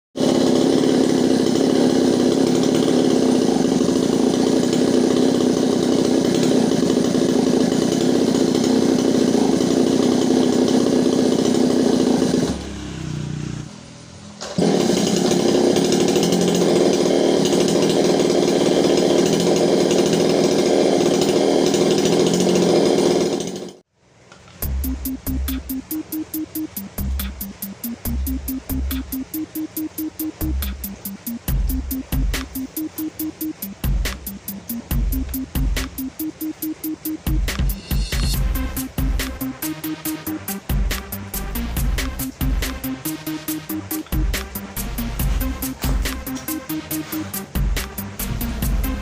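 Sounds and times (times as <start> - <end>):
chainsaw engine revving: 0.2 - 13.8, 14.4 - 23.9, 24.6 - 49.0.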